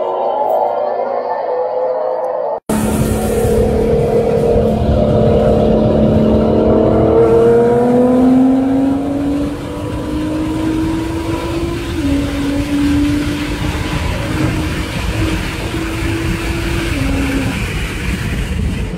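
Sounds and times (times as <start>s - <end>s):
road and wind noise: 0.0s - 18.9s
car engine revving hard: 2.7s - 18.7s.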